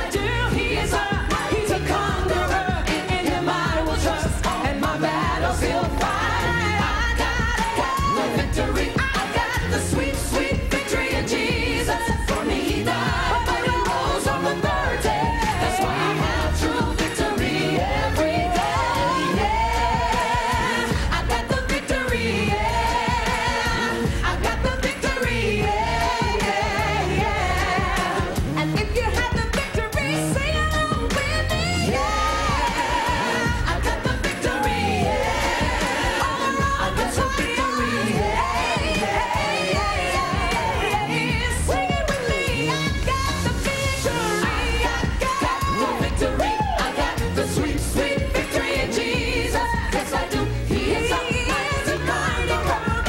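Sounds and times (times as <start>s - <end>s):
backing singers: 0.0s - 53.0s.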